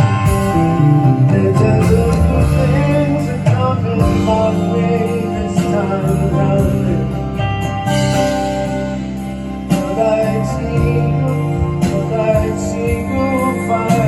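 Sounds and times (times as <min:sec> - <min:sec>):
guitar: 0:00.0 - 0:14.0
live band instrumental: 0:00.0 - 0:14.0
moving bass line: 0:00.0 - 0:14.0.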